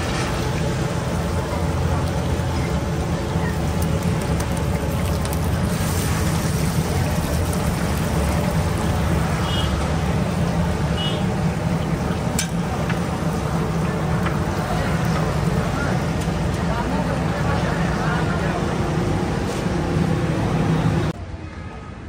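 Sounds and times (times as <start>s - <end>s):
low rumble of street traffic: 0.0s - 22.0s.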